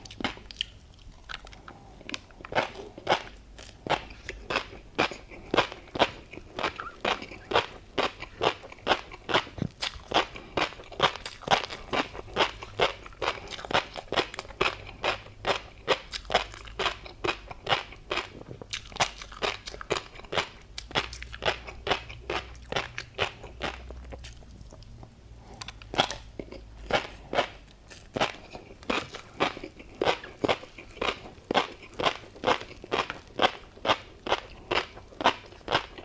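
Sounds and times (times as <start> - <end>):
crunchy chewing: 0.0 - 36.0.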